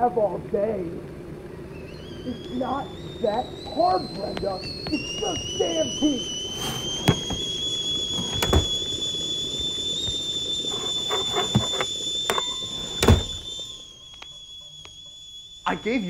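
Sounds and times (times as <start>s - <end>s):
kettle whistling: 1.3s - 16.0s.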